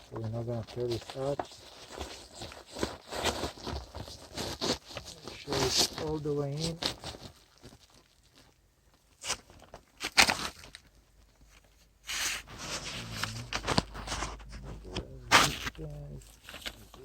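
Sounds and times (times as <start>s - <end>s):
scraping rustle: 0.0s - 8.5s, 9.2s - 17.0s
sharp clicks and crinkles: 0.8s - 17.0s.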